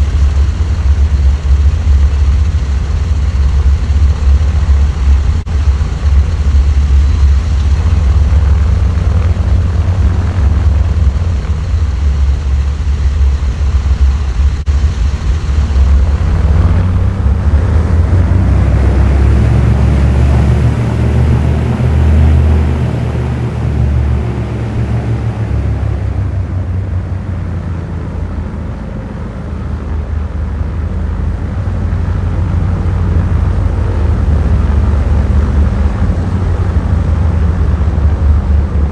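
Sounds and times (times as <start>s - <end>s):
propeller engines droning: 0.0s - 38.9s.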